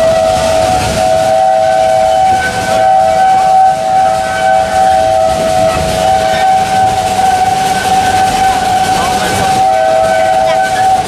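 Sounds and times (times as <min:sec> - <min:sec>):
rumble of train cars: 0:00.0 - 0:11.0
train wheels squealing on rails: 0:00.0 - 0:11.0.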